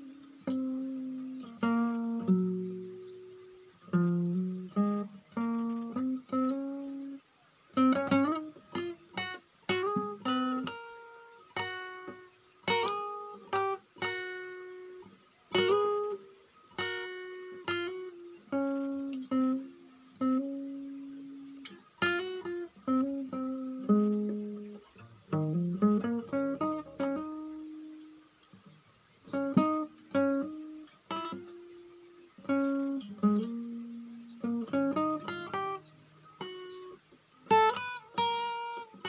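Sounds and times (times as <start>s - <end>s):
acoustic guitar plucked melody: 0.0s - 39.0s.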